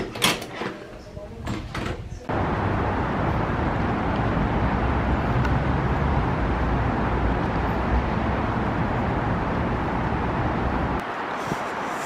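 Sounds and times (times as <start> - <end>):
road traffic noise: 2.2 - 12.0.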